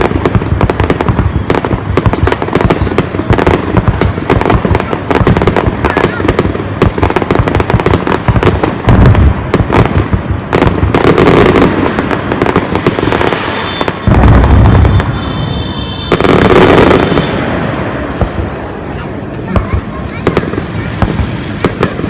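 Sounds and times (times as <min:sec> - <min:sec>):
deep firework booms: 0:00.0 - 0:22.0
fireworks crackling and popping: 0:00.0 - 0:22.0.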